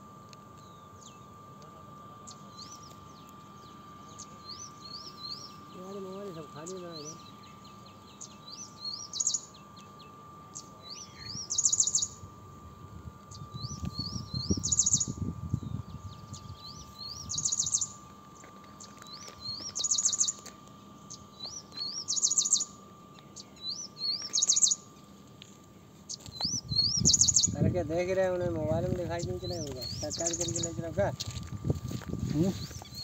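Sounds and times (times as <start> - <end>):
songbird singing: 0.3 - 1.6, 2.2 - 33.0.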